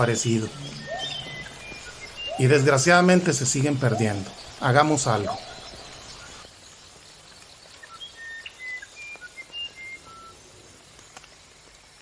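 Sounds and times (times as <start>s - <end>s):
birds chirping: 0.0s - 11.2s
faint steady hiss: 0.0s - 12.0s.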